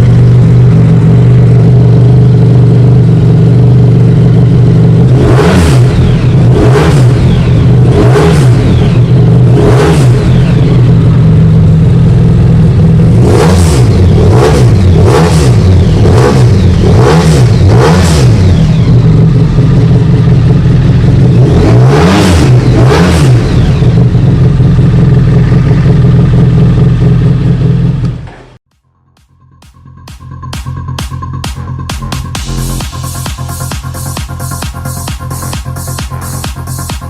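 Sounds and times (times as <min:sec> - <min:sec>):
motorcycle engine revving and idling: 0:00.0 - 0:28.7, 0:29.8 - 0:37.0.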